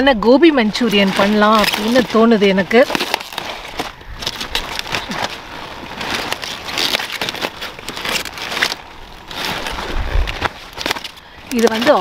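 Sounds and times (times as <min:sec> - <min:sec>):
cauliflower leaves crackling and snapping: 0:00.4 - 0:12.0.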